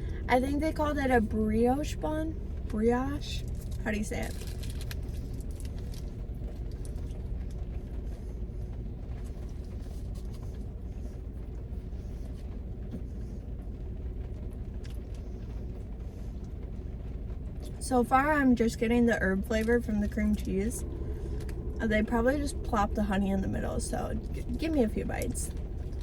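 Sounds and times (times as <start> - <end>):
low rumble inside a car: 0.0 - 26.0.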